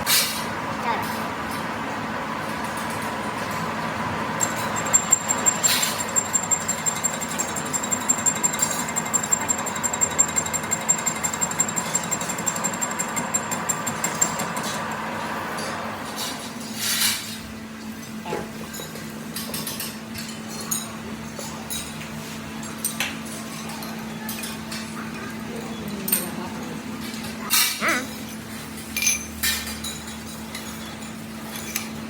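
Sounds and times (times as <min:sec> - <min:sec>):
machinery hum and whine: 0:00.0 - 0:32.0.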